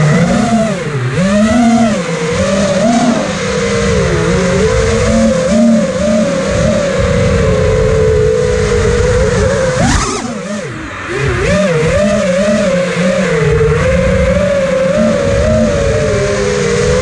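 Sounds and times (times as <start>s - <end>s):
drone propellers whining: 0.0s - 17.0s
wind rushing over camera: 0.0s - 17.0s.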